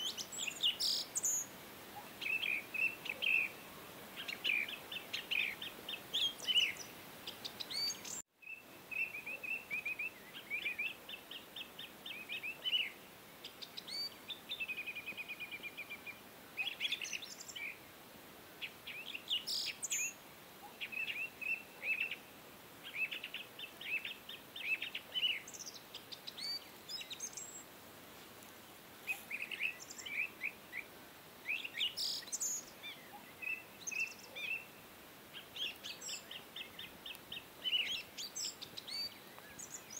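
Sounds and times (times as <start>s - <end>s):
small birds chirping: 0.0s - 17.9s, 18.6s - 39.9s.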